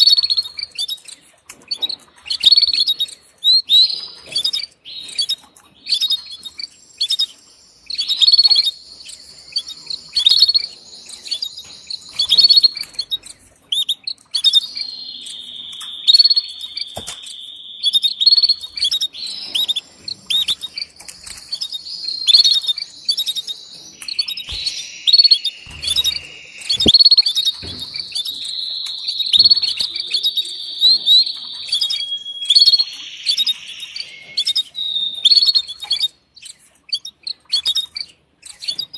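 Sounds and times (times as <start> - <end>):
canary sharp high chirps: 0.0 - 38.9.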